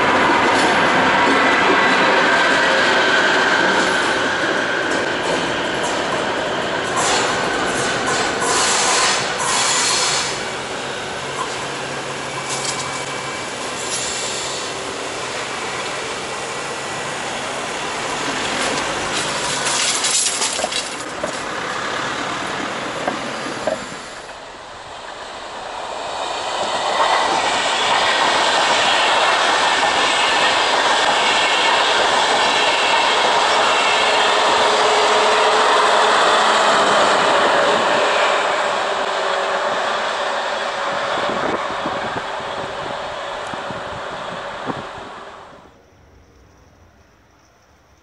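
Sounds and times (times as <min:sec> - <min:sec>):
train rolling over bridge: 0:00.0 - 0:45.8.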